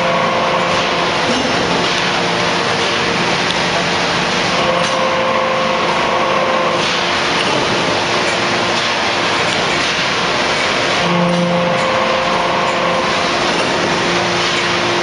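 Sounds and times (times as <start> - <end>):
forging press mechanical din: 0.0 - 15.0
pitched whine: 0.0 - 15.0.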